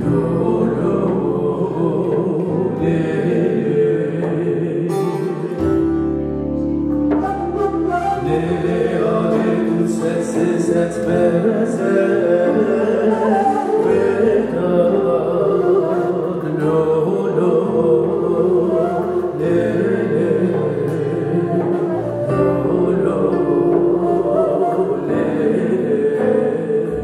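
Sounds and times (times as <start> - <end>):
men singing: 0.0 - 5.8, 7.3 - 27.0
folk band playing: 0.0 - 26.8.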